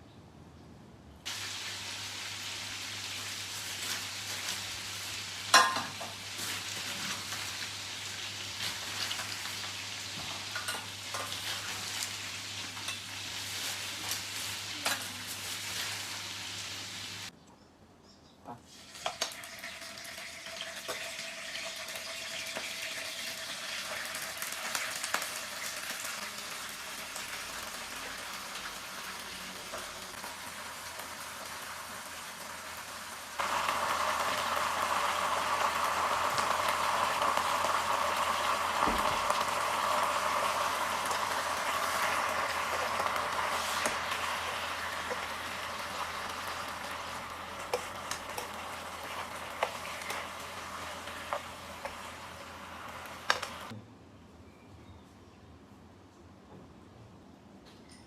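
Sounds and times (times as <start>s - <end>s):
chicken sizzling in a pan: 1.2s - 17.3s, 18.7s - 53.7s.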